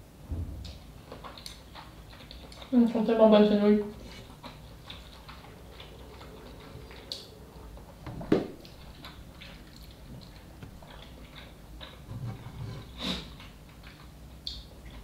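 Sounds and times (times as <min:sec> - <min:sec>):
person chewing noodles: 0:00.6 - 0:02.8, 0:03.9 - 0:15.0.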